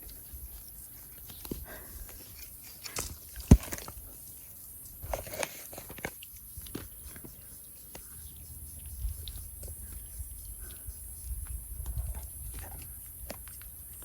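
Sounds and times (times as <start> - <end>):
monkeys clicking and tapping: 0.0 - 14.0.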